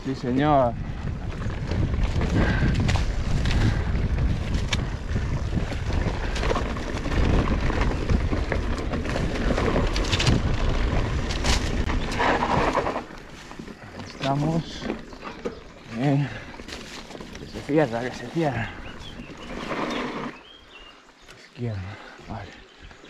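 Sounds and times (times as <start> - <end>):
wind buffeting microphone: 0.0 - 20.9
tyres rolling on dirt trail: 0.0 - 23.0.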